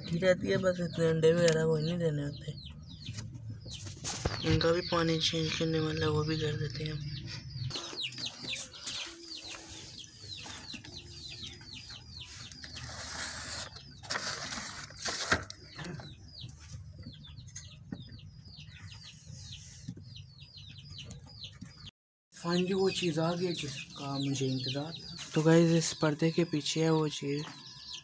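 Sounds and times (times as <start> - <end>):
cage birds chirping: 0.0 - 28.0.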